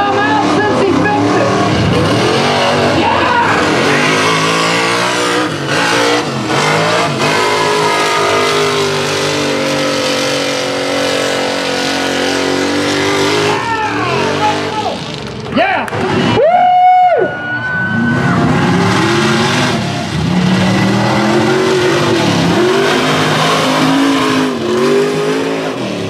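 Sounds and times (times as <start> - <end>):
truck engine revving: 0.0 - 16.7, 17.8 - 26.0.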